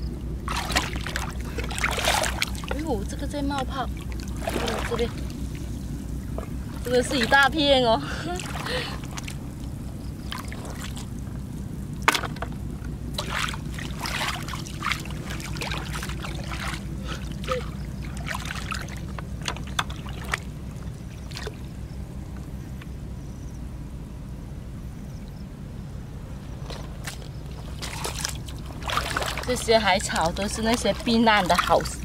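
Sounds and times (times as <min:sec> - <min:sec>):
seawater splashing: 0:00.0 - 0:22.8, 0:26.5 - 0:32.0
low hum: 0:00.0 - 0:32.0.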